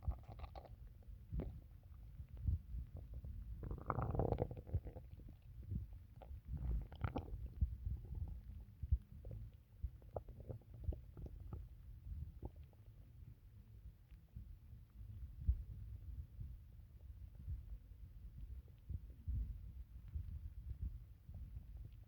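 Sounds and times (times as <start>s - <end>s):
stomach gurgling: 0.0s - 22.0s.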